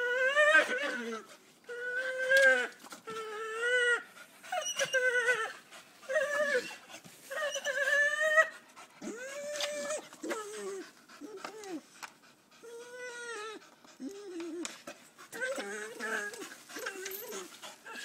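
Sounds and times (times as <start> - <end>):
dog whining: 0.0 - 11.8, 12.6 - 18.0.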